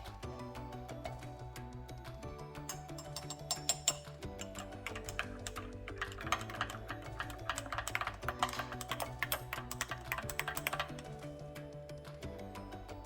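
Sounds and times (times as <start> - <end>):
background music with held notes: 0.0 - 13.0.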